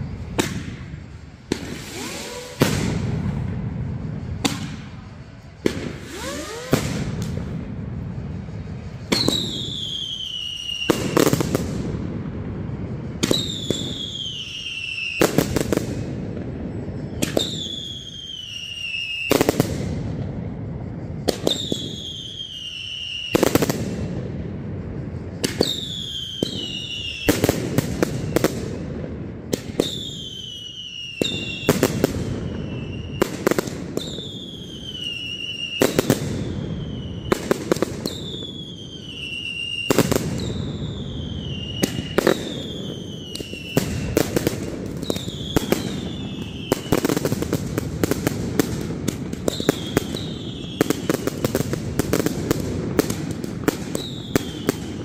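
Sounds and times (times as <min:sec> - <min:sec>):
firework bangs: 0:00.0 - 0:55.0
firework crackle: 0:00.0 - 0:55.0
firework falling whistle: 0:00.0 - 0:55.0.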